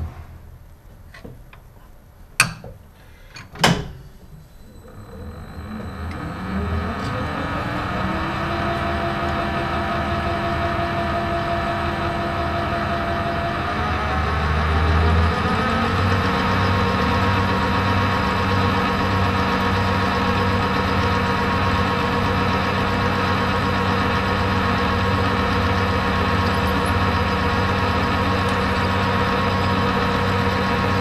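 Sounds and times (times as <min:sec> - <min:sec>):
low hum: 0:04.3 - 0:31.0
metal lathe whining: 0:04.4 - 0:31.0.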